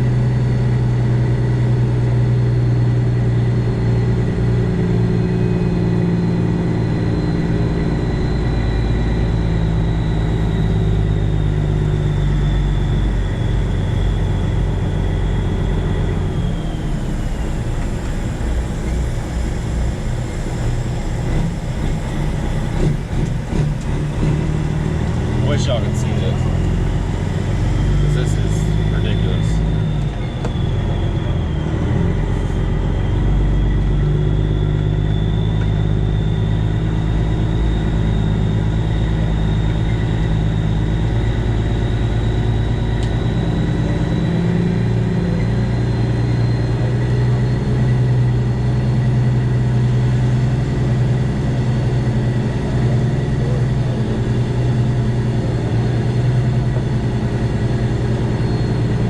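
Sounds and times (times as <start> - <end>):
diesel engine running: 0.0 - 59.0
faint high whine: 4.9 - 59.0.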